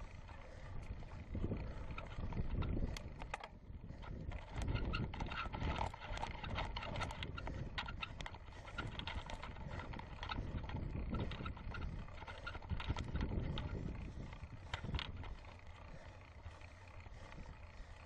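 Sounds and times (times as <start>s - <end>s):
wind rumble on microphone: 0.0s - 16.0s
bike clicks and rattles: 0.0s - 18.0s.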